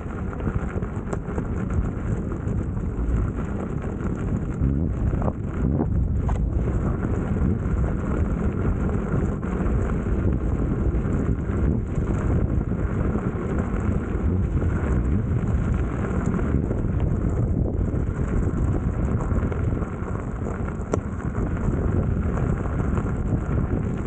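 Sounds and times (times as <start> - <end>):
tyre rolling over gravel: 0.0 - 24.0
wind rumble on microphone: 0.0 - 24.0.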